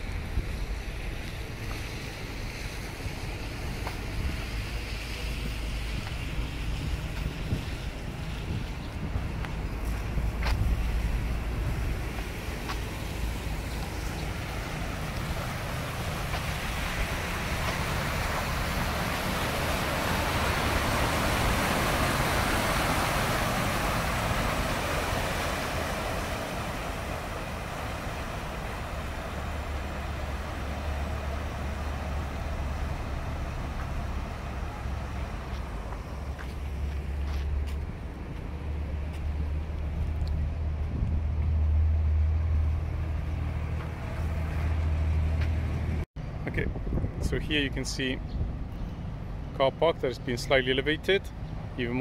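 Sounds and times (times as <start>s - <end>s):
low engine hum: 0.0s - 52.0s
truck tyres churning water: 0.0s - 52.0s.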